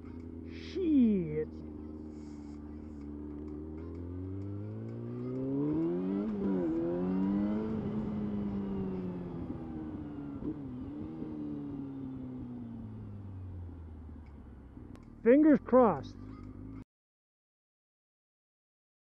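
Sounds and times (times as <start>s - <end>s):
motorcycle engine accelerating: 0.0s - 16.8s.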